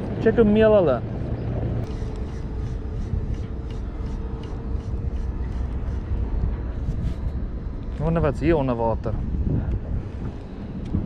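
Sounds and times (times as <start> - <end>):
motorboat engine rumble: 0.0 - 11.0.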